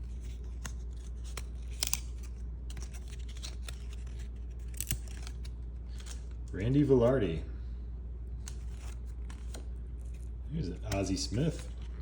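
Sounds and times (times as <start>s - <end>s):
cardboard cards snapping and scraping: 0.0s - 6.3s, 8.4s - 12.0s
low steady hum: 0.0s - 12.0s.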